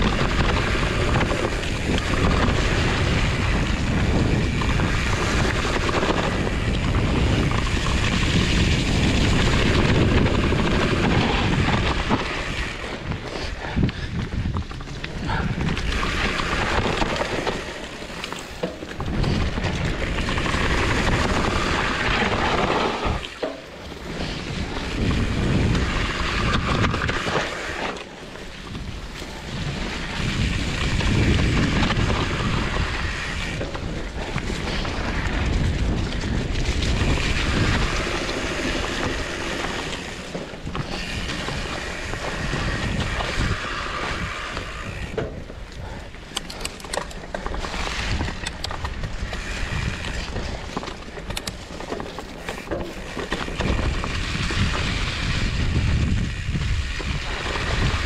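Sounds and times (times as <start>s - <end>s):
rumble of bike tyres: 0.0s - 58.0s
wind buffeting microphone: 0.0s - 58.0s.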